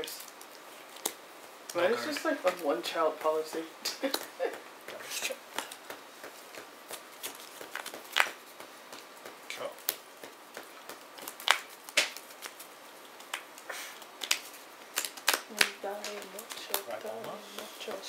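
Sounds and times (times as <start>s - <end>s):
trading cards clicking and rustling: 2.0s - 18.0s.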